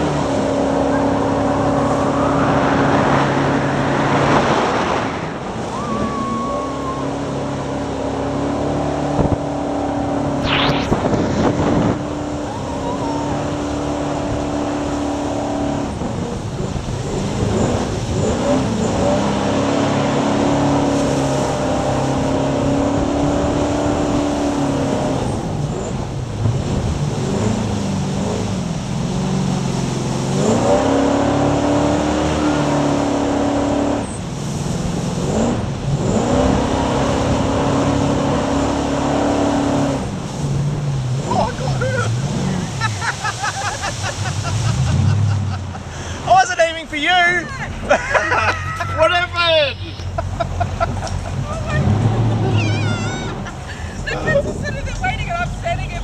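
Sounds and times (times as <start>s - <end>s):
jet boat engine running hard: 0.0s - 56.0s.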